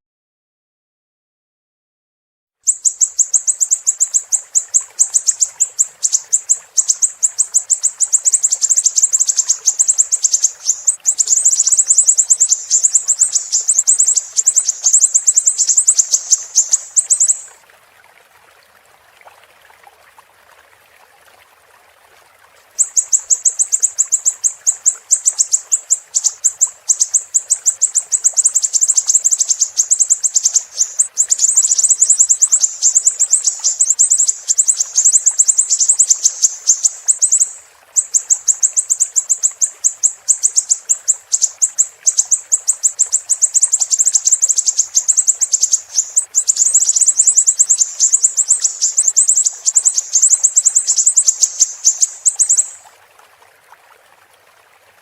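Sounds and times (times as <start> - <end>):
bird chirping shrilly: 2.7 - 17.5, 22.8 - 52.8.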